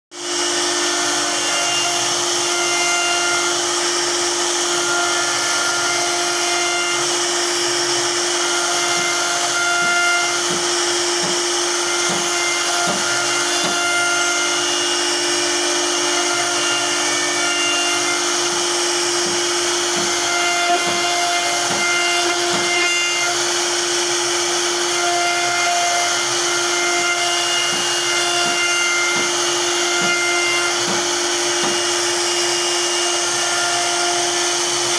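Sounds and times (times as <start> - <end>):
cutter hissing through wood: 0.1 - 34.9
router spindle motor whining: 0.1 - 34.9.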